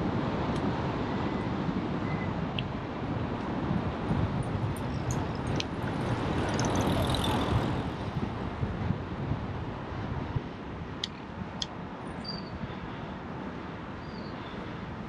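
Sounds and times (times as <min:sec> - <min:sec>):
wind and road rumble: 0:00.0 - 0:15.0.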